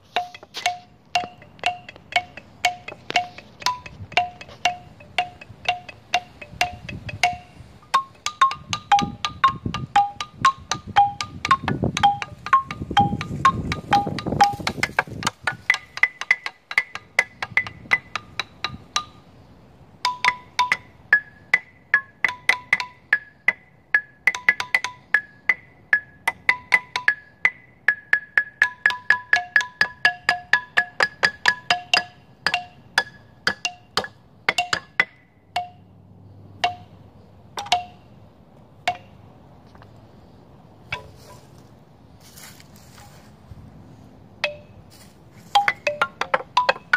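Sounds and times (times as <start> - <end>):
xylophone notes: 0.0 - 19.2, 20.0 - 35.9, 36.6 - 37.0, 37.6 - 38.1, 38.8 - 39.1, 40.9 - 41.6, 44.4 - 46.9.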